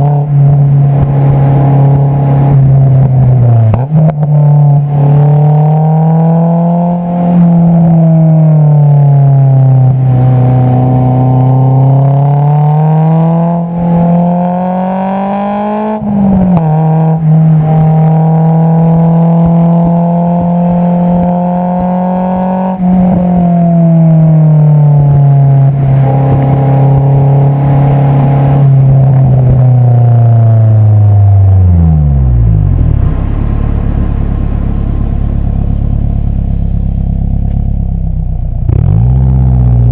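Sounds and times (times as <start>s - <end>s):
car exhaust engine note: 0.0s - 39.9s.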